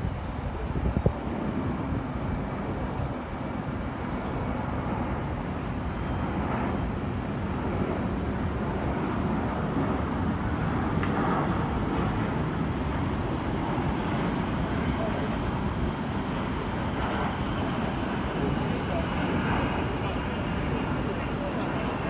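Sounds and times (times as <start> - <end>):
jet aircraft rumbling overhead: 0.0 - 22.0.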